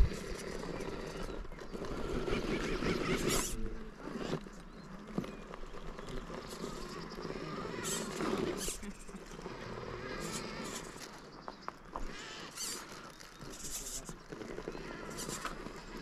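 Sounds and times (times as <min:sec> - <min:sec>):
electric motor and gears whining: 0:00.0 - 0:16.0
tyres scrabbling on rock: 0:00.0 - 0:16.0.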